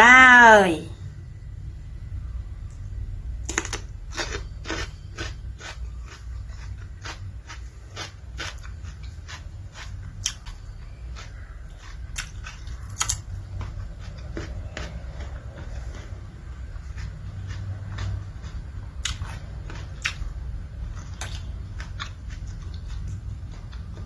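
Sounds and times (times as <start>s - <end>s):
low steady hum: 0.0s - 24.0s
crunchy chewing of food: 3.4s - 24.0s.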